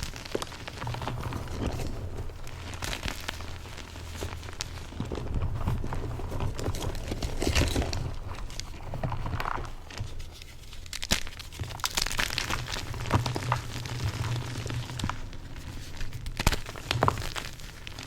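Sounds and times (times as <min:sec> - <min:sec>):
chalk crunching and crackling: 0:00.0 - 0:18.0.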